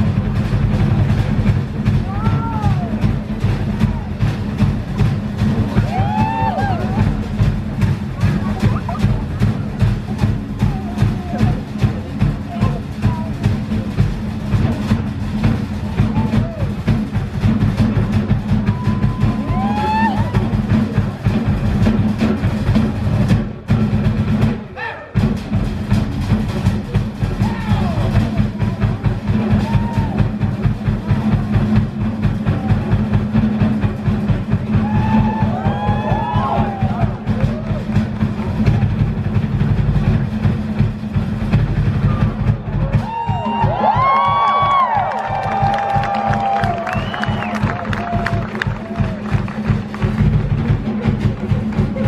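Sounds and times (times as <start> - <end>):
loud fast drumming: 0.0 - 52.0.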